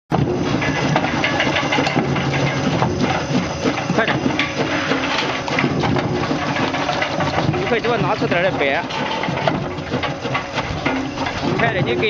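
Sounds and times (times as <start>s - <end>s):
machine motor humming: 0.1s - 12.0s
potatoes knocking and clattering: 0.1s - 12.0s.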